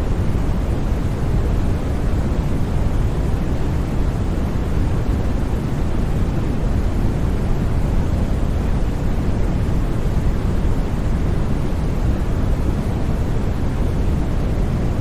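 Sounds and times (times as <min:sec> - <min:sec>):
low rumbling white noise: 0:00.0 - 0:15.0.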